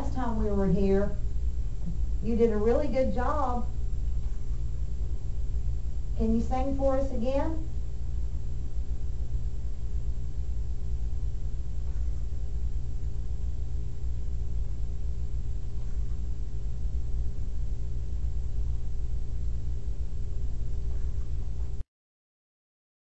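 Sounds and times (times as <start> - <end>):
low rumble and hum: 0.0 - 21.8.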